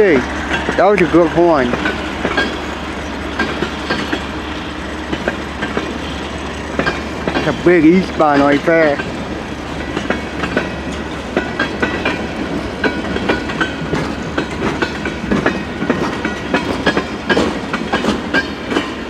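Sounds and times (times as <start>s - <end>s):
low rumble of train: 0.0s - 19.0s
train wheels clicking on rail joints: 0.0s - 19.0s.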